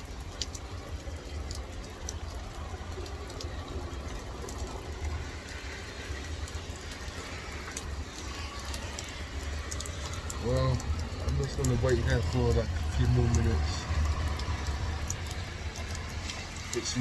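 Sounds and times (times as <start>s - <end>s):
heavy rain pouring: 0.0s - 17.0s
raindrops splashing: 0.0s - 17.0s.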